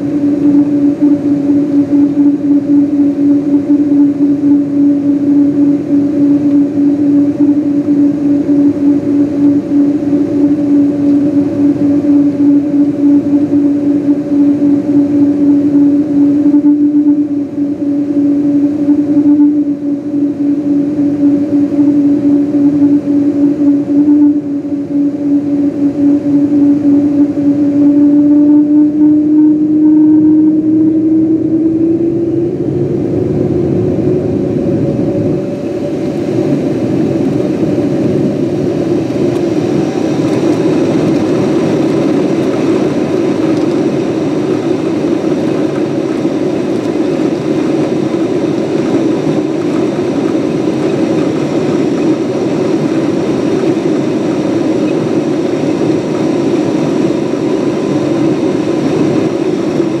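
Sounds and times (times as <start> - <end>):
jet engines at takeoff thrust: 0.0 - 60.0.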